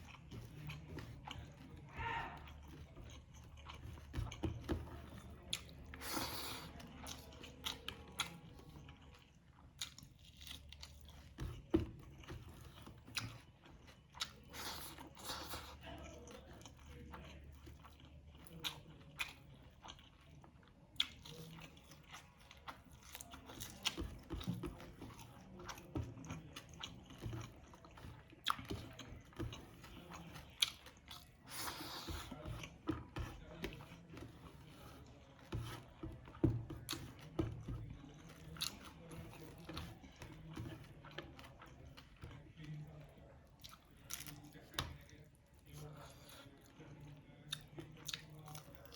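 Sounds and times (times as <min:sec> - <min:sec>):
person chewing crispy food: 0:00.0 - 0:48.9.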